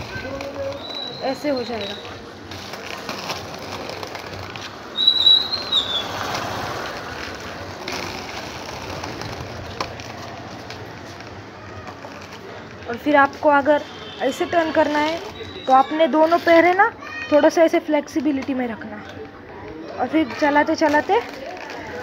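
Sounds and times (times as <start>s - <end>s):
roller-skate wheels on concrete: 0.0s - 22.0s.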